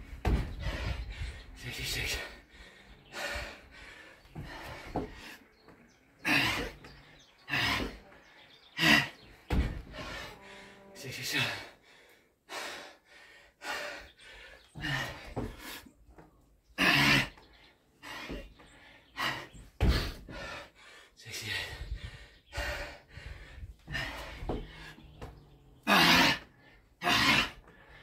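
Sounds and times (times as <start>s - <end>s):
man breathing hard: 0.0s - 28.0s.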